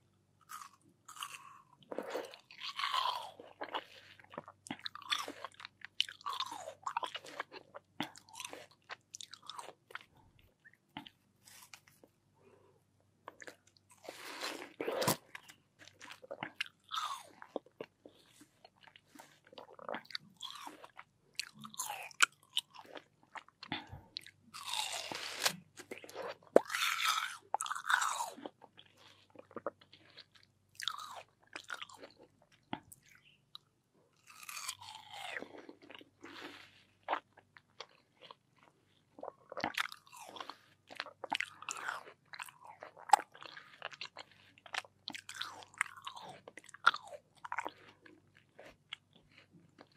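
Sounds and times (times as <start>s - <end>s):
crunchy watermelon bites and chewing: 0.4s - 10.2s, 13.3s - 49.9s.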